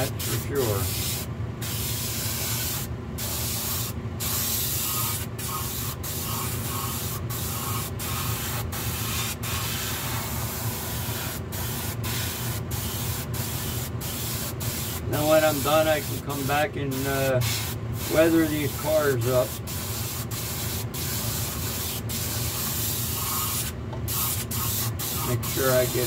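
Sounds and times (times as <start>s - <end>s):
spray gun hissing: 0.0s - 26.0s
steady low hum: 0.0s - 26.0s.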